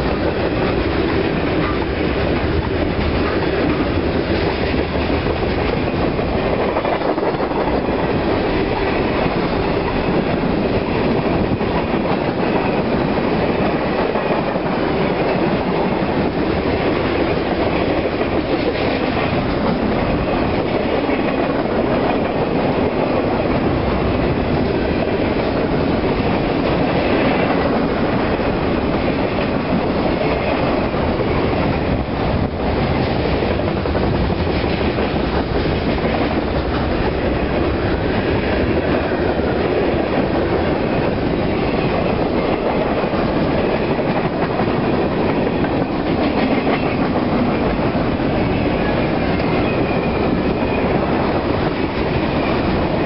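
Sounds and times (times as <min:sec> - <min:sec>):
freight train wheels rumbling: 0:00.0 - 0:53.0
wheels clickety-clack: 0:00.0 - 0:53.0.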